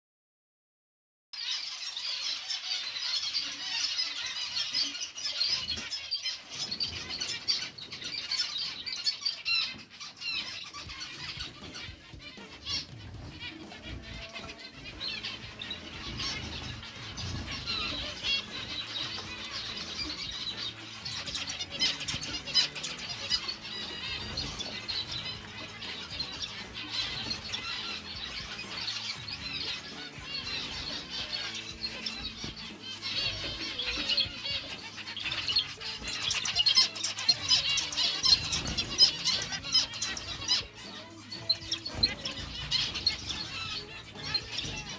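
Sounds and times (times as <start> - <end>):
background music: 1.4 - 44.9
flock of birds chirping and squealing: 1.4 - 44.9.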